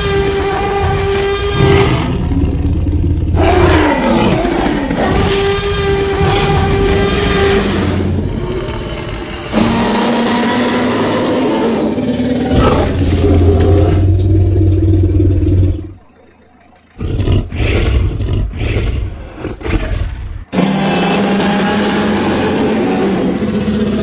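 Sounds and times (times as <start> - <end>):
dinosaur roars: 0.0 - 16.2, 17.0 - 24.0.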